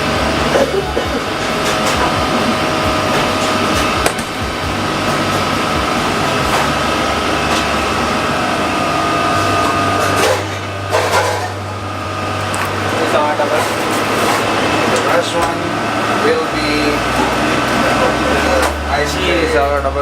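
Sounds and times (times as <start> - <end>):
ventilation machinery whir: 0.0 - 20.0.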